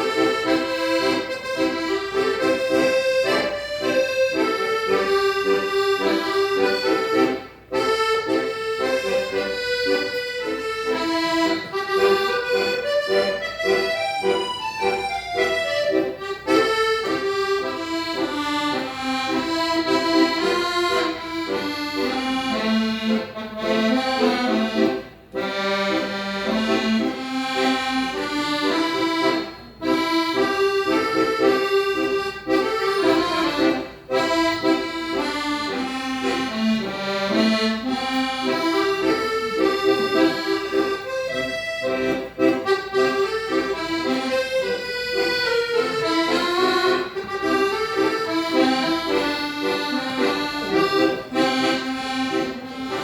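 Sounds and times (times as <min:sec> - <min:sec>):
accordion playing melody: 0:00.0 - 0:53.0.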